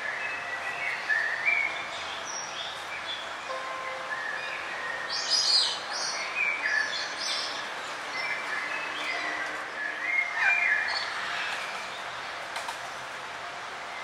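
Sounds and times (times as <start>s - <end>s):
songbirds chirping and singing: 0.0s - 12.8s
forest background hiss: 0.0s - 14.0s.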